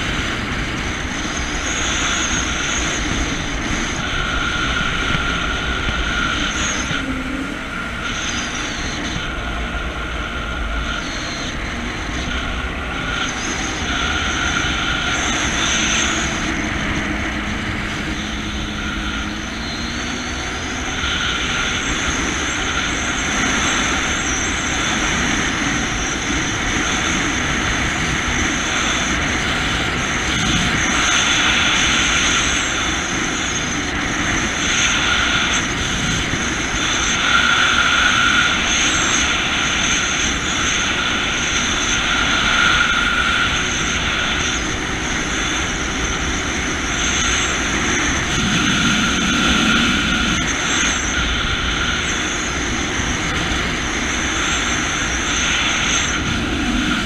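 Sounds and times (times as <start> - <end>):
jet ski engine running: 0.0 - 57.0.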